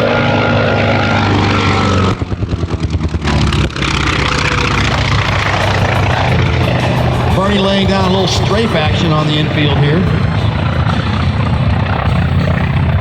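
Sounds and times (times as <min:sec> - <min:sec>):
aircraft radial engine running: 0:00.0 - 0:13.0.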